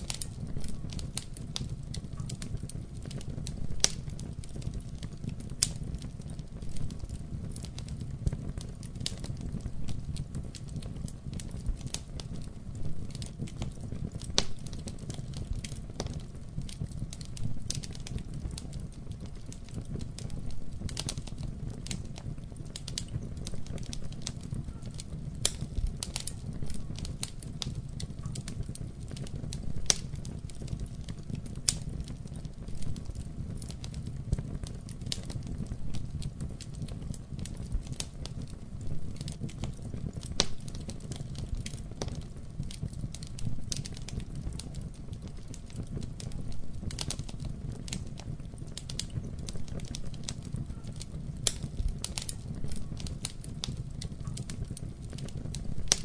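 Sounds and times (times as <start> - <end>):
fire crackles and pops: 0.0 - 56.0
wood fire flames rumbling: 0.0 - 56.0.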